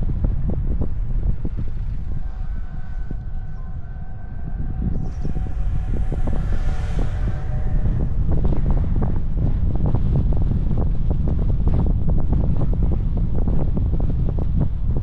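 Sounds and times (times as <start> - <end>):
car road rumble: 0.0 - 15.0
wind buffeting microphone: 0.0 - 15.0.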